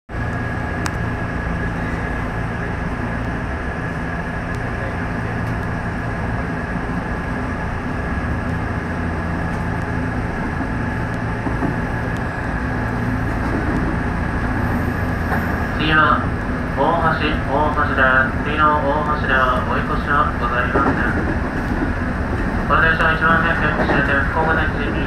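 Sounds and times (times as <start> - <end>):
electric train running hum: 0.1 - 25.0.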